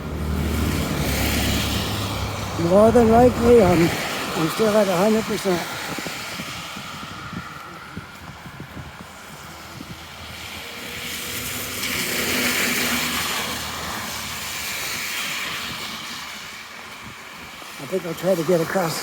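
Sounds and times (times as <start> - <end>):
vehicle driving past: 0.0 - 16.3.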